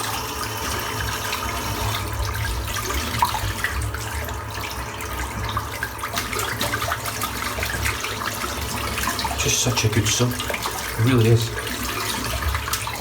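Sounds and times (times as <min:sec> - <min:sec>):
water running from tap: 0:00.0 - 0:13.0
small water splashes: 0:00.7 - 0:13.0.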